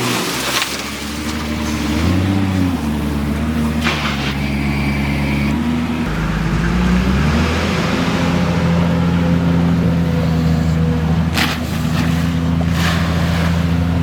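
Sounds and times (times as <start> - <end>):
backhoe diesel engine revving: 0.0 - 14.0.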